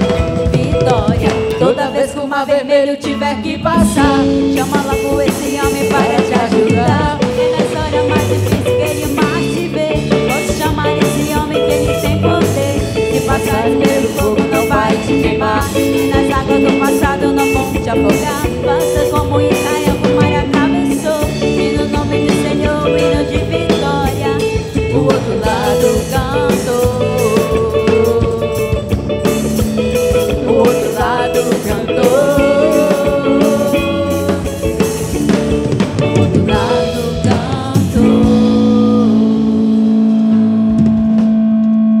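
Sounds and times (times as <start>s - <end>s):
drum kit: 0.0s - 42.0s
gospel band playing: 0.0s - 42.0s
guitar: 0.0s - 42.0s.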